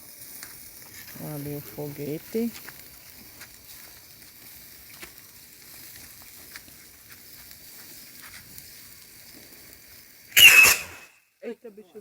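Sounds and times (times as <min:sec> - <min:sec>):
bonfire hissing: 0:00.0 - 0:12.0
fire crackles: 0:00.0 - 0:12.0.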